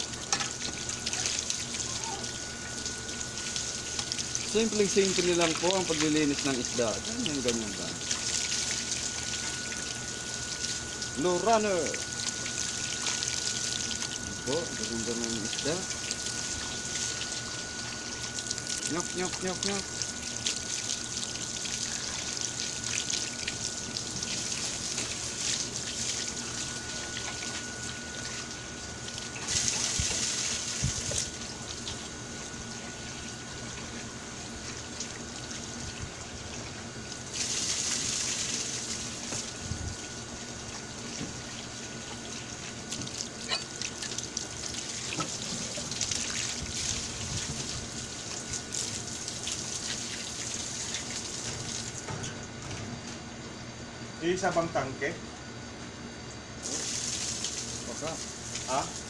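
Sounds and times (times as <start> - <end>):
hose water splashing: 0.0 - 52.1, 56.6 - 59.0.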